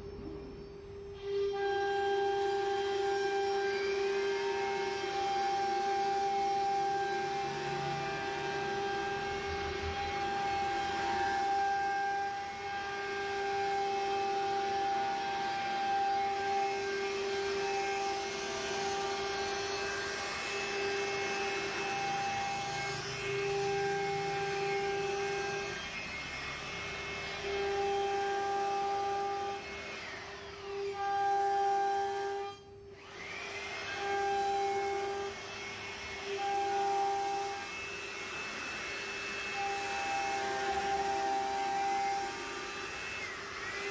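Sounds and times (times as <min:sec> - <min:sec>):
cnc router spindle whine: 0:00.0 - 0:43.9.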